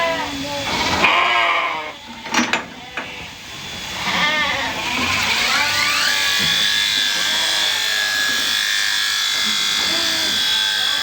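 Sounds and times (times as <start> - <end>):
electric shearing handpiece motor whine: 0.0 - 11.0.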